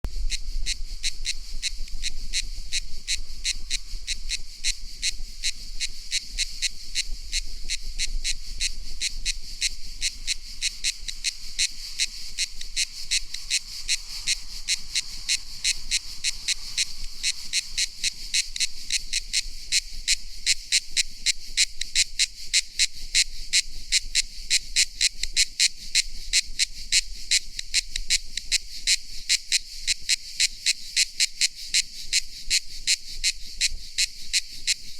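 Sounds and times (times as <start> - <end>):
cicada buzzing song: 0.1 - 34.9.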